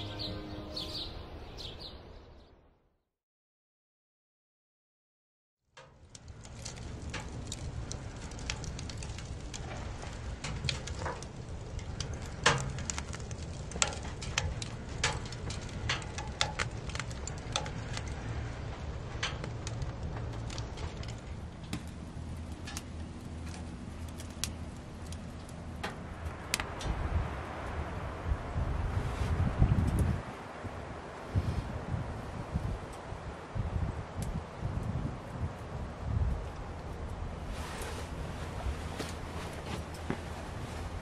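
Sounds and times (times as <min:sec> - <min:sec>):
wood fire crackling and popping: 0:05.8 - 0:28.6, 0:29.6 - 0:31.2, 0:31.9 - 0:41.0.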